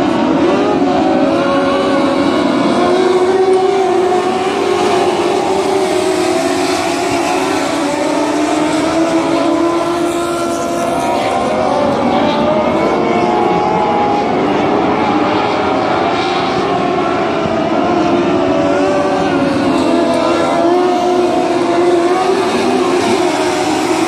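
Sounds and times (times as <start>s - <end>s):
racing engines at high revs: 0.0s - 24.0s.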